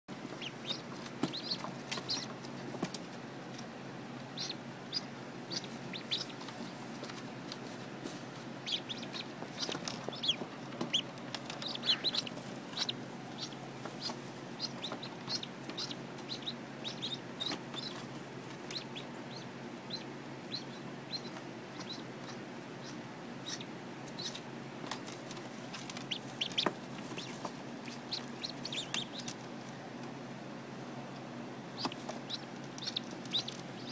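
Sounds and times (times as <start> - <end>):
incubator low hum: 0.1 - 33.9
chicks peeping: 0.2 - 3.6, 4.2 - 30.2, 31.0 - 33.9.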